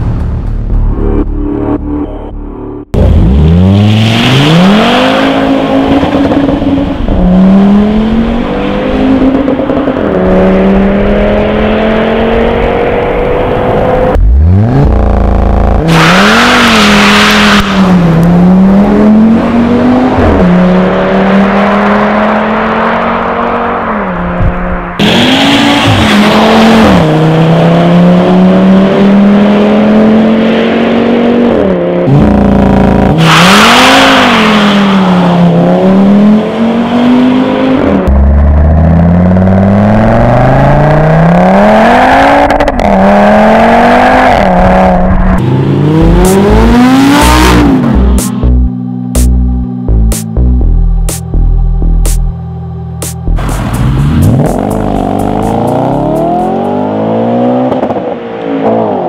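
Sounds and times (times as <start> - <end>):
car engine accelerating hard: 0.9 - 52.0, 53.2 - 59.0.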